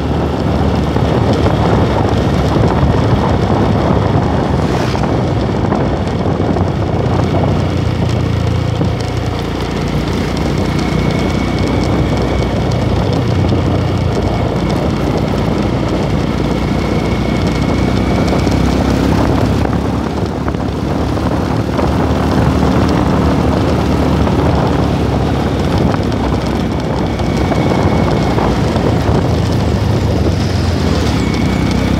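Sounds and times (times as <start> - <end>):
motorcycle engine running: 0.0 - 31.9
wind and road noise: 0.0 - 31.9.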